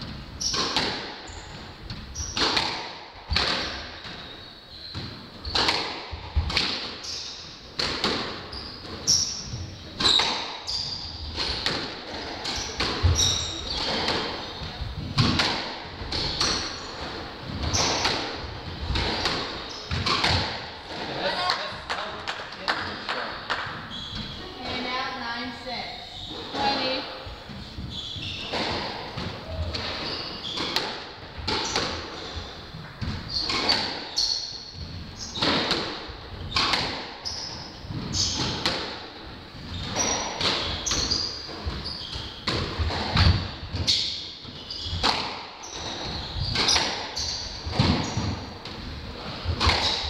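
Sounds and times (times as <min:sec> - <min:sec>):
squash ball hitting rackets and walls: 0:00.0 - 0:25.0, 0:26.2 - 0:50.0.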